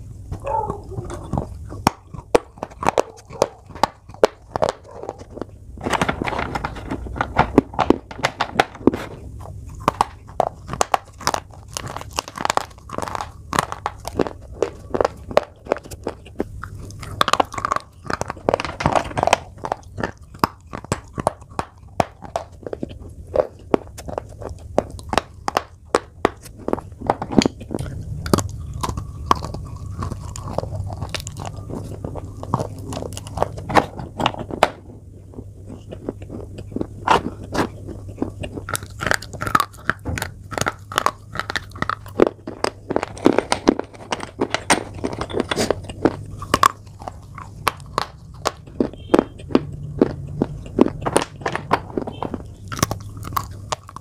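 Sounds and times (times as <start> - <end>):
chalk being chewed: 0.4 - 5.6, 9.0 - 54.0.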